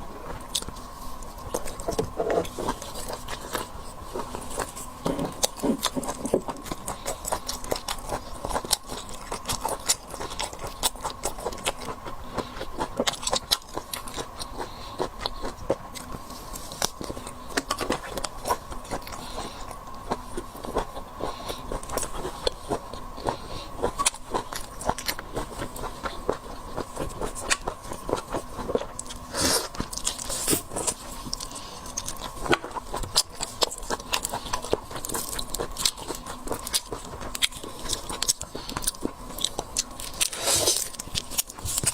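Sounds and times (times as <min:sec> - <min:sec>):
person chewing seafood: 0:00.0 - 0:41.9.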